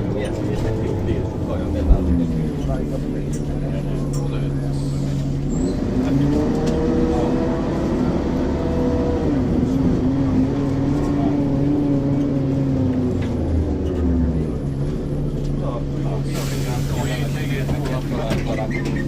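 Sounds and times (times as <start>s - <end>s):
bus diesel engine under load: 0.0s - 19.0s.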